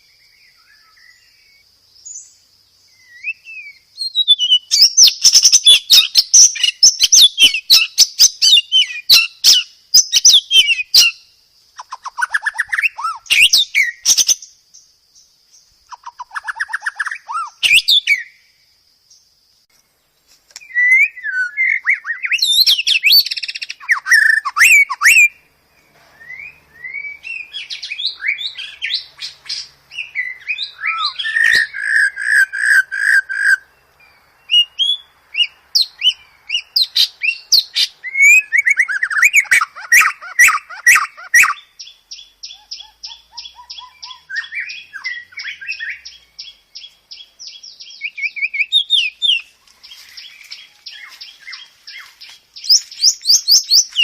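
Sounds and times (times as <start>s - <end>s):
bird singing whistles and trills: 0.0s - 18.6s, 20.6s - 54.0s.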